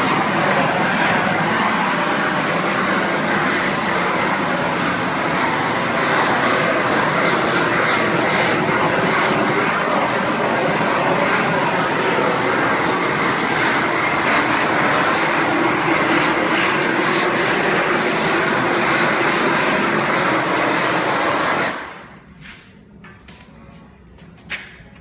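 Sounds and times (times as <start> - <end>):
propane heat gun flame rushing: 0.0 - 22.2.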